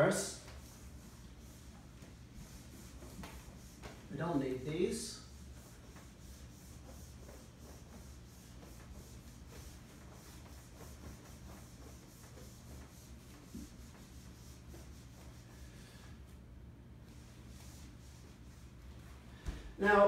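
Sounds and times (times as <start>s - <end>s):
cloth rubbing a whiteboard: 0.0s - 16.4s, 17.0s - 20.0s.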